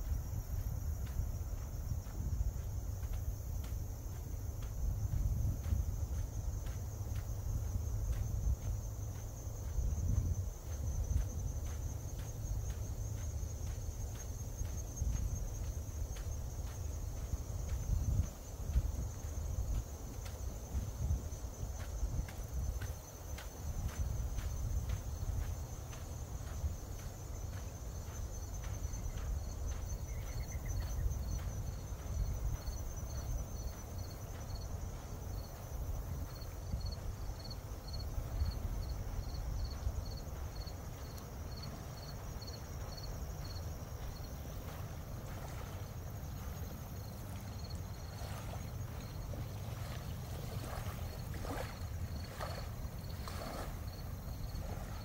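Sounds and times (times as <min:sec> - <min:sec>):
constant low rumble: 0:00.0 - 0:55.0
footsteps on trail: 0:00.0 - 0:55.0
insect rapid trill: 0:00.0 - 0:55.0
insect steady high chirp: 0:00.0 - 0:55.0.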